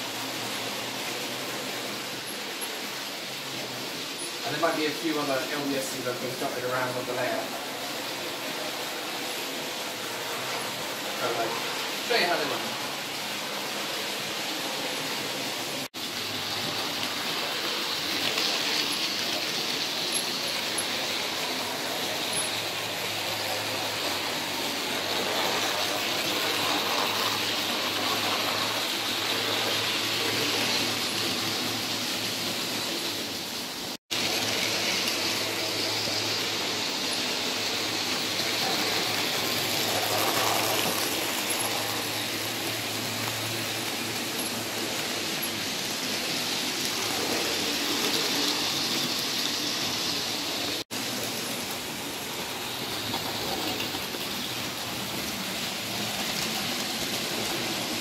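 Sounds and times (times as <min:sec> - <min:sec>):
model trains whirring on rails: 0:00.0 - 0:58.0.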